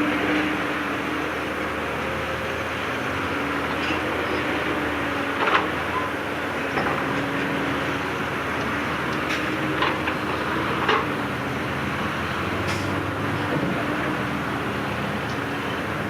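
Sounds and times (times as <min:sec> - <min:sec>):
heavy diesel machinery running: 0:00.0 - 0:16.0.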